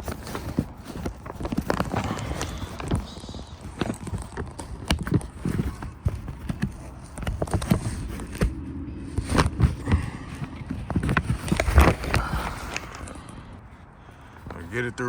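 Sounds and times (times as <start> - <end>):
hands handling fabric and frame: 0.0 - 14.6.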